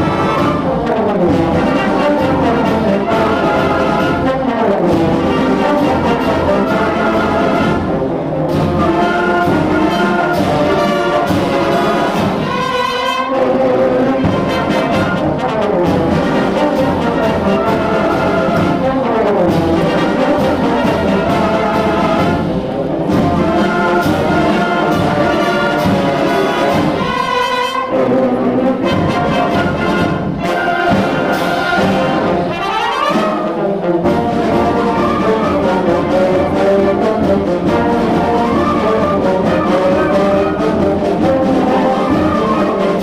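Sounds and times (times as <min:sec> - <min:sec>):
concert band playing a march: 0:00.0 - 0:43.0.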